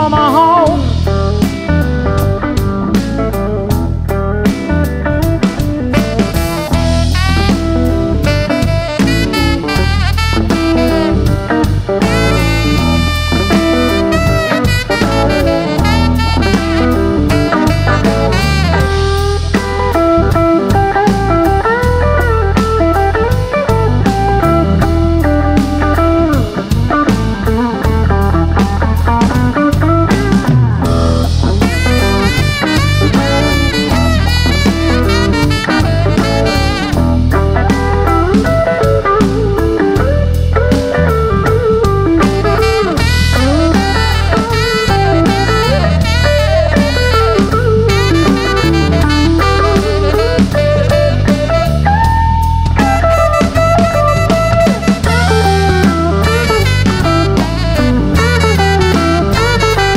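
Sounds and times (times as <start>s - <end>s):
bass guitar: 0.0s - 59.9s
drum kit beat: 0.0s - 59.9s
electric guitar: 0.0s - 59.9s
tenor saxophone: 4.8s - 59.9s.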